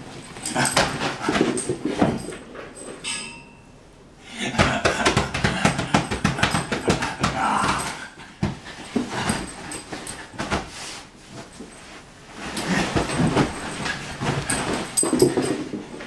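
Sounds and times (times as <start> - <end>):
bedding rustling: 0.0 - 3.0, 4.8 - 16.0.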